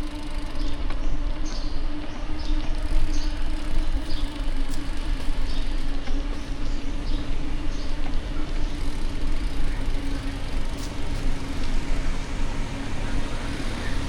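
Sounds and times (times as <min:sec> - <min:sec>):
low engine hum: 0:00.0 - 0:14.0
passing vehicles: 0:00.0 - 0:14.0.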